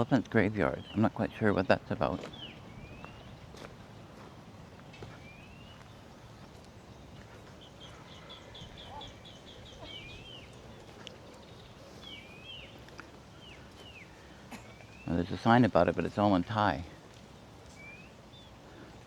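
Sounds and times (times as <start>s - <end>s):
birds calling: 0.0s - 19.0s
low background hiss: 0.0s - 19.0s.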